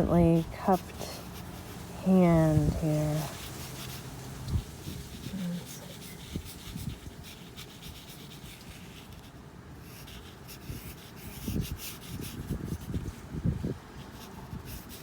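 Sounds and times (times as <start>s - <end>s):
pen scratching on paper: 0.0s - 13.2s, 14.0s - 15.0s.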